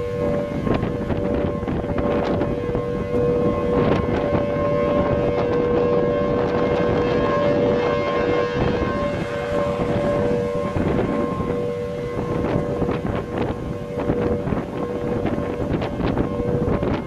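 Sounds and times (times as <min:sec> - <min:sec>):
two-note warning siren: 0:00.0 - 0:17.0
wind buffeting microphone: 0:00.0 - 0:17.0.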